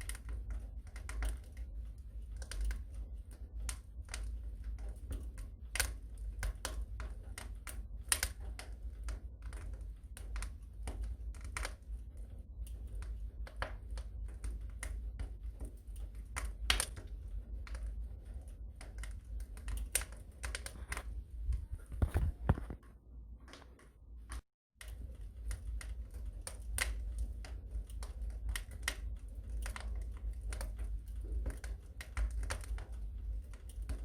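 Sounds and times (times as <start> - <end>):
low rumble of flames: 0.0 - 34.0
wood fire crackling: 0.0 - 34.0.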